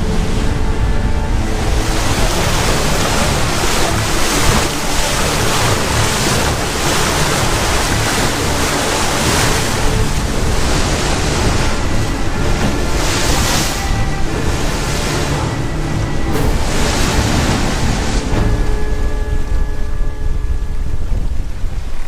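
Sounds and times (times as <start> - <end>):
sea water rushing past boat: 0.0 - 22.0
wind buffeting microphone: 0.0 - 22.0.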